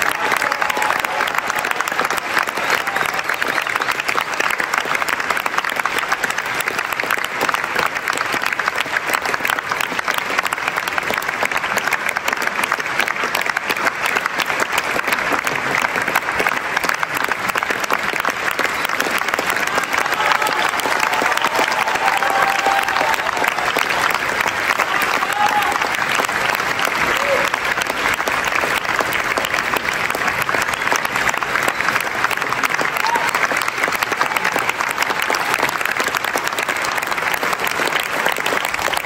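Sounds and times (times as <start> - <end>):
audience applauding: 0.0 - 39.0.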